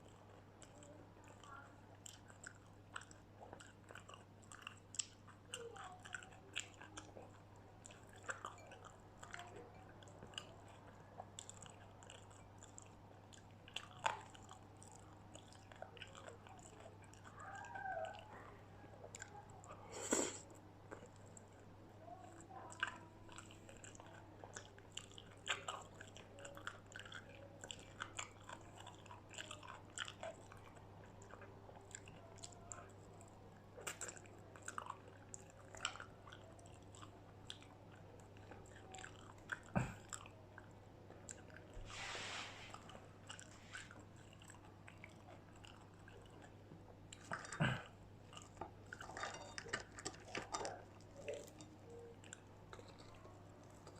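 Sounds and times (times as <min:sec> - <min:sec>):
person chewing crispy food: 0:00.0 - 0:53.9.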